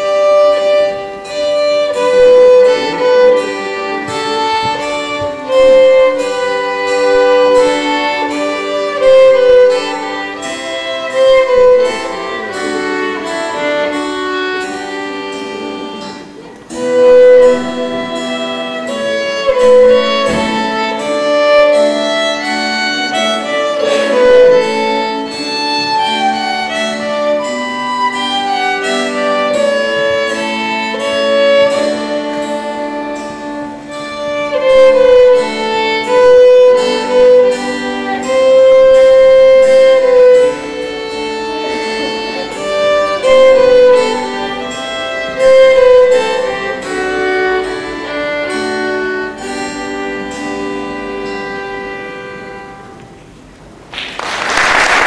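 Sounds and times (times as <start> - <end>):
violins playing melody: 0.0 - 53.8.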